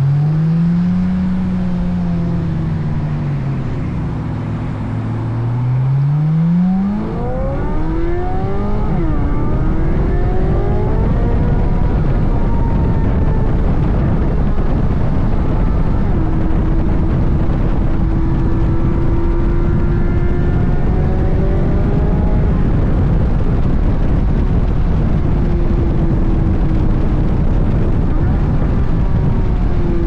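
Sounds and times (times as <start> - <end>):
sports car engine revving: 0.0 - 30.0.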